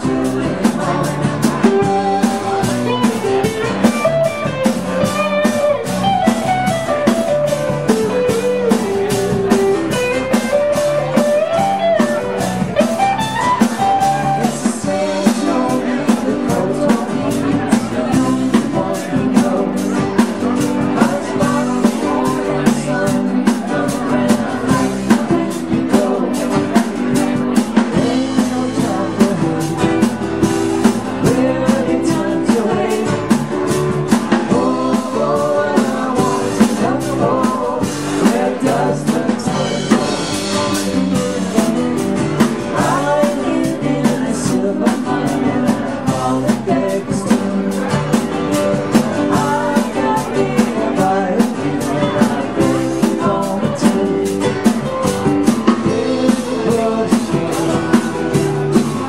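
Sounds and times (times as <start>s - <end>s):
drums playing a steady beat: 0.0s - 59.0s
guitars playing: 0.0s - 59.0s.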